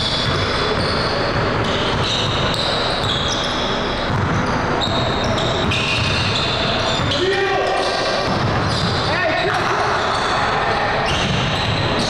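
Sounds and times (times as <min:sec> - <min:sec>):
sneakers squeaking on court: 0:00.0 - 0:10.4, 0:11.0 - 0:12.0.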